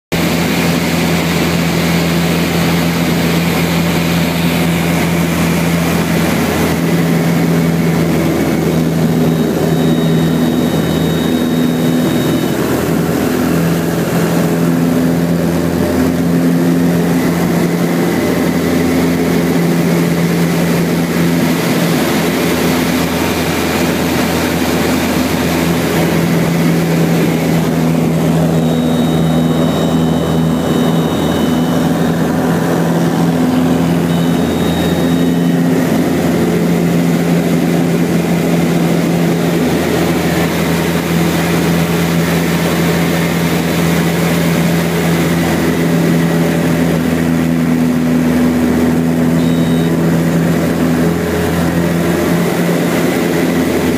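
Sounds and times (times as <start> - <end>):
propeller plane engine droning: 0.1 - 53.9.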